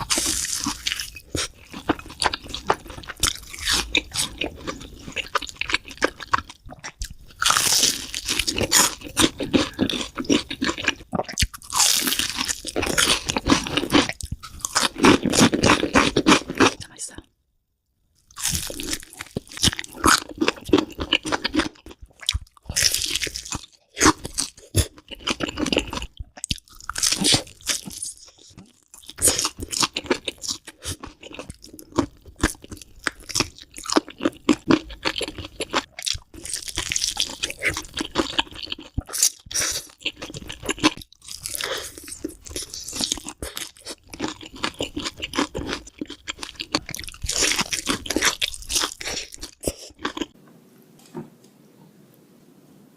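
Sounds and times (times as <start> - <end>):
crunching crisp food: 0.0 - 16.8, 18.2 - 50.4.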